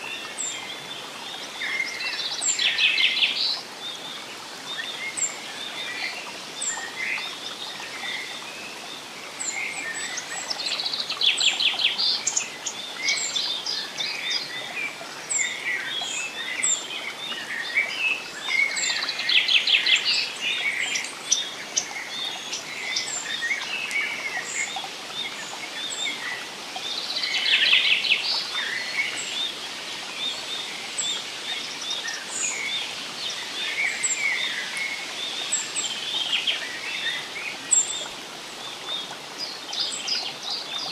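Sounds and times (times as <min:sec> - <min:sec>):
soft steady hiss: 0:00.0 - 0:40.9.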